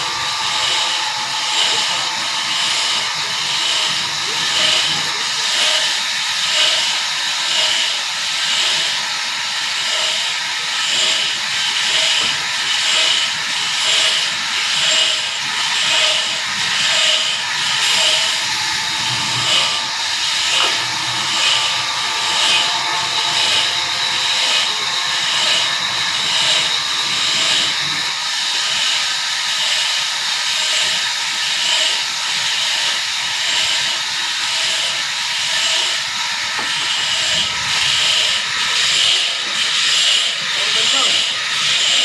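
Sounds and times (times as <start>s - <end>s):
sawmill saw whining: 0.0s - 42.0s.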